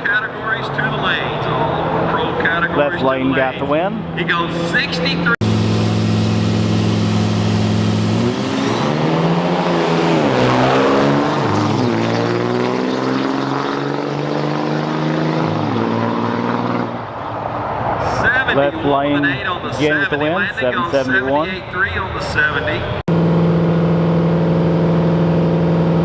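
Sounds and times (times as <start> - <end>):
diesel truck engines racing: 0.0 - 26.0.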